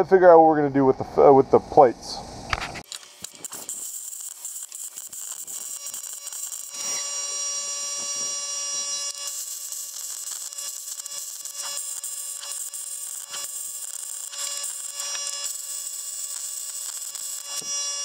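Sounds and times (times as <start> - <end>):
plasma cutter hissing and whining: 2.8 - 18.0.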